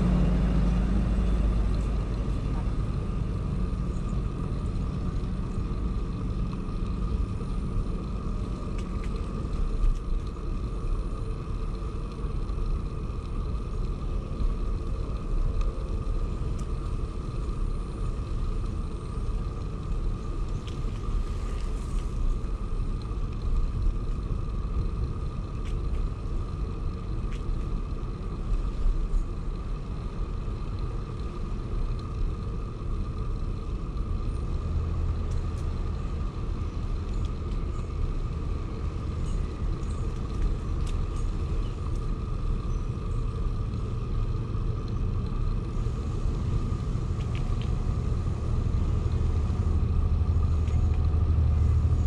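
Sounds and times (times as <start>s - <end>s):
bicycle tyre noise: 0.0s - 52.0s
thin steady whine: 0.0s - 52.0s
wind rumble: 0.0s - 52.0s.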